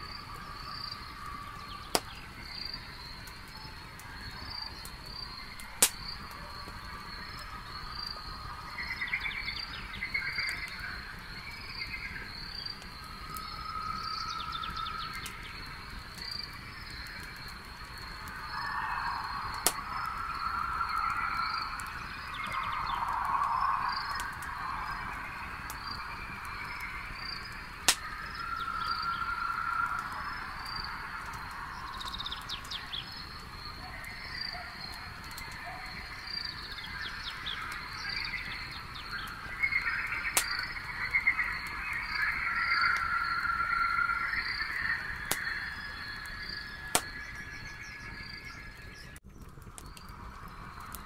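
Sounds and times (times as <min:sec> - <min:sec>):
cricket chirping: 0:00.0 - 0:49.2
campfire popping: 0:00.0 - 0:51.0
chorus of night insects: 0:00.0 - 0:51.0.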